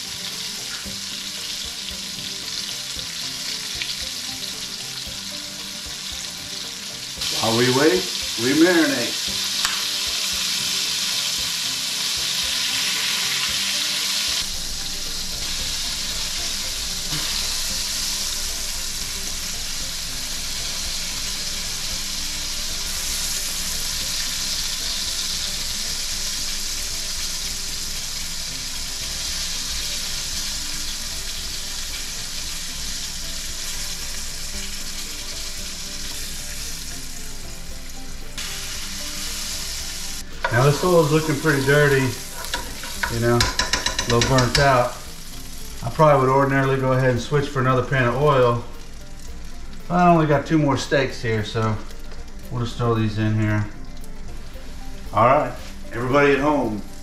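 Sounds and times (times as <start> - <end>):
steaks deep-frying sizzle: 0.0 - 57.0.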